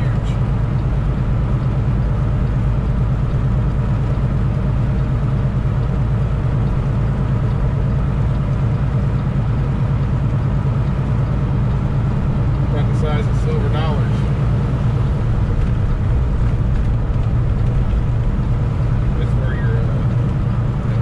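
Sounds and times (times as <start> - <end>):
road noise: 0.0 - 21.0
truck diesel engine drone: 0.0 - 21.0.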